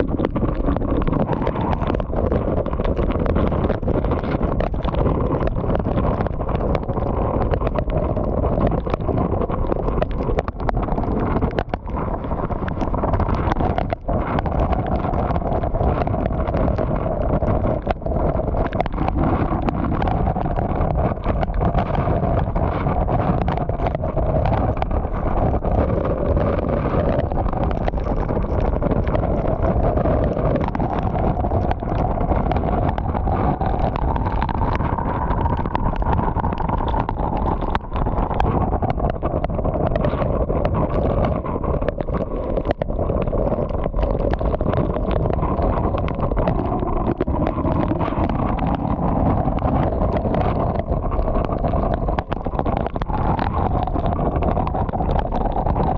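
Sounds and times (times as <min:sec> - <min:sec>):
hurricane wind and rain roaring: 0:00.0 - 0:55.9
wind noise on microphone: 0:00.0 - 0:55.9.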